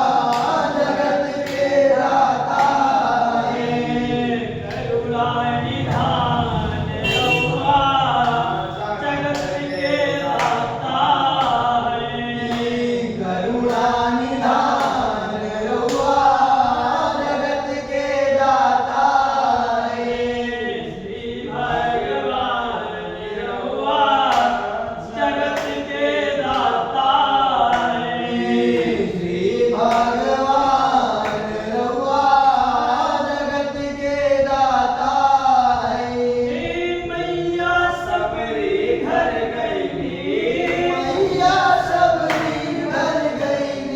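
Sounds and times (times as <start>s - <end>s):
voices singing devotional chant: 0.0s - 43.9s.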